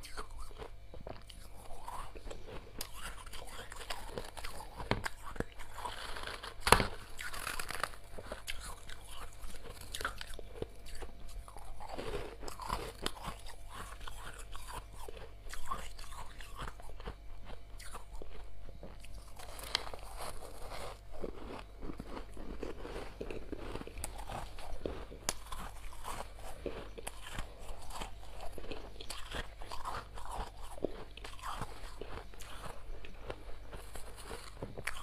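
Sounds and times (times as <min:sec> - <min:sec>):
frost crunching being chewed: 0:00.0 - 0:35.0
steady low hum: 0:00.0 - 0:35.0.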